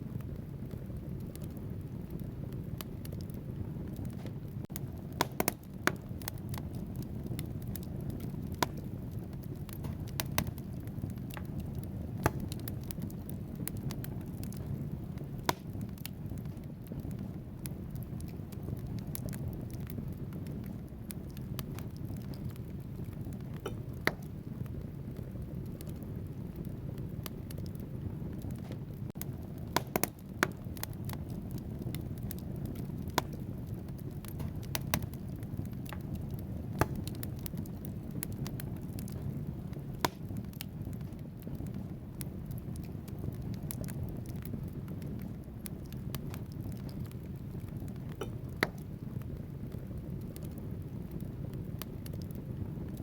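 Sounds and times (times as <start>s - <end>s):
logs crackling and popping: 0.0s - 53.0s
low rush of flames: 0.0s - 53.0s.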